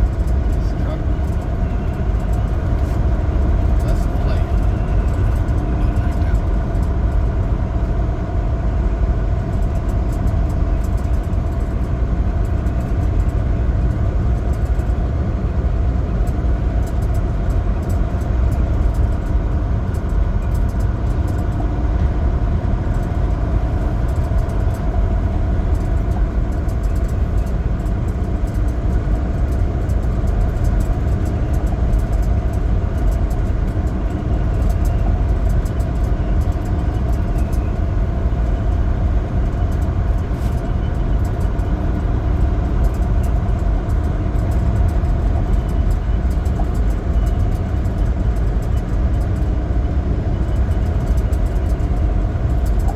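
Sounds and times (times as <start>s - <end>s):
road noise: 0.0s - 9.6s, 14.7s - 52.9s
truck engine rumble: 0.0s - 52.9s.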